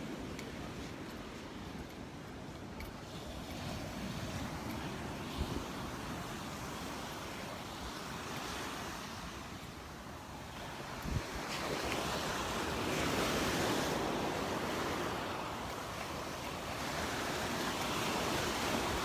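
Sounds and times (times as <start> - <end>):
surf washing onto beach: 0.0 - 19.0
wind buffeting microphone: 0.0 - 19.0.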